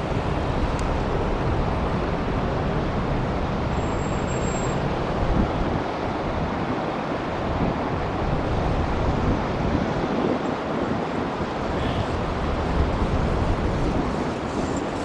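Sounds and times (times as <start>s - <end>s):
road traffic rushing: 0.0s - 15.0s
wind blowing over microphone: 0.0s - 15.0s.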